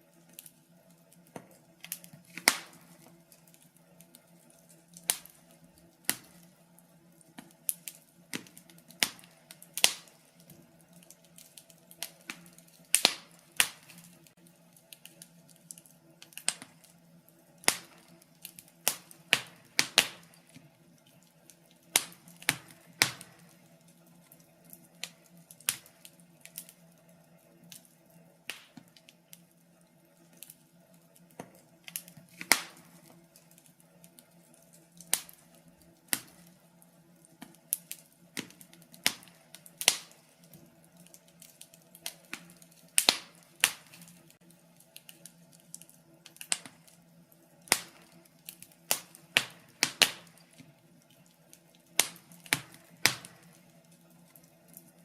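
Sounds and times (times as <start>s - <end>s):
faint steady hum: 0.0s - 55.0s
fireplace fire crackling: 0.0s - 55.0s.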